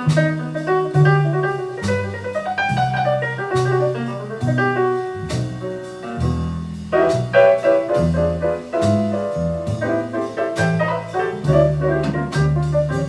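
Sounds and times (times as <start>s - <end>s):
bass line: 0.0s - 13.0s
jazz piano: 0.0s - 13.0s.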